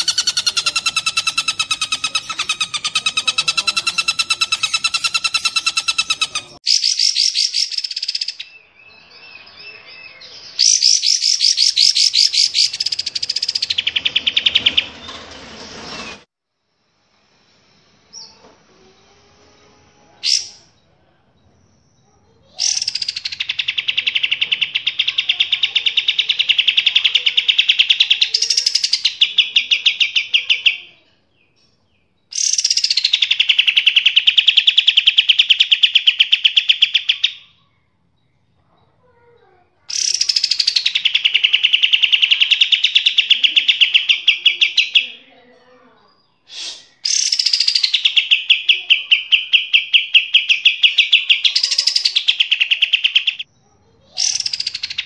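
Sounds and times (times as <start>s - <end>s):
bird singing rapid trills: 0.0s - 14.8s, 21.4s - 55.0s
bird chirp: 0.0s - 16.3s, 17.5s - 55.0s.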